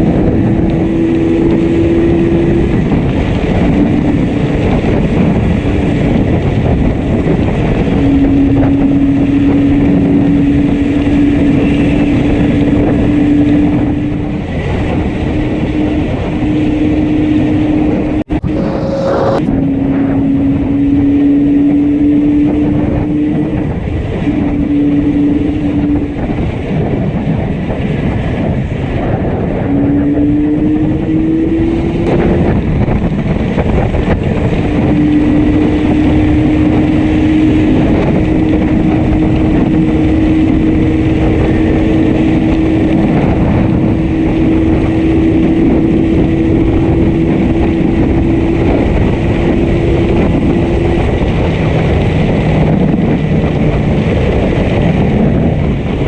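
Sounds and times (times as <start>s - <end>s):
misfiring two-stroke motorcycle engine: 0.0s - 56.0s
road noise: 0.0s - 56.0s
wind noise: 0.0s - 56.0s.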